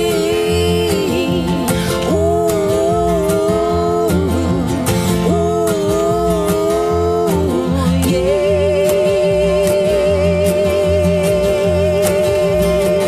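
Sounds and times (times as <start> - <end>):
melody of long wavering notes: 0.0 - 13.0
strummed acoustic guitar: 0.0 - 13.0.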